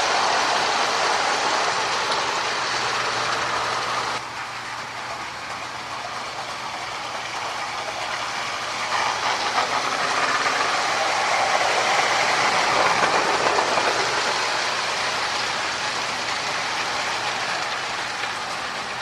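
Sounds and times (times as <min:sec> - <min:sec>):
toy train motor whirring: 0:00.0 - 0:19.0
wheels clattering over rails: 0:00.0 - 0:19.0.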